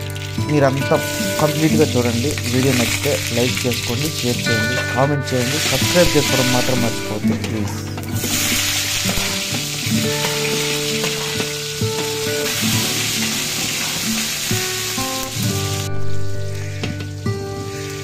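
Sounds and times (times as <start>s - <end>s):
shallots sizzling in hot oil: 0.0s - 18.0s.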